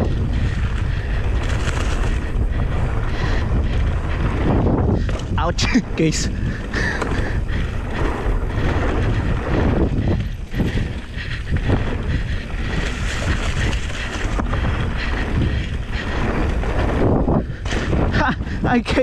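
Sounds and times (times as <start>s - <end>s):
bike tyres rolling on dirt: 0.0s - 19.0s
wind buffeting microphone: 0.0s - 19.0s.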